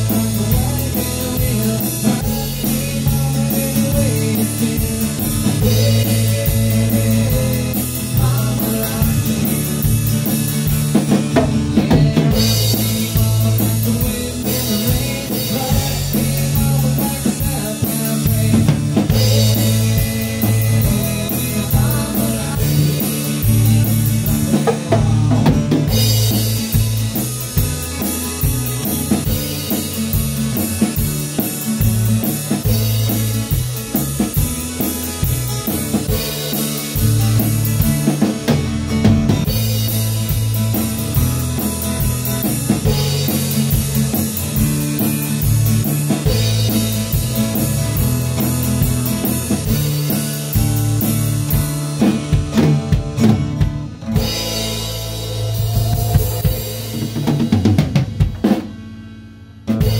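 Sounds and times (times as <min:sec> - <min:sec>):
bass line: 0:00.0 - 0:59.9
drum kit with cymbals: 0:00.0 - 0:59.9
guitar: 0:00.0 - 0:59.9.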